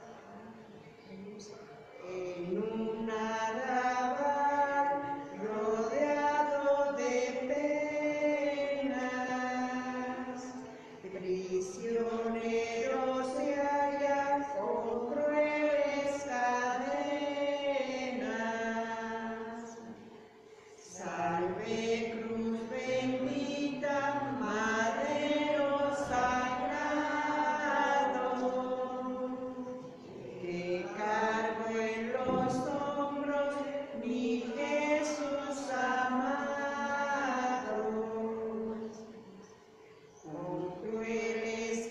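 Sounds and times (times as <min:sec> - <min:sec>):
person singing a hymn: 0:00.0 - 0:41.9.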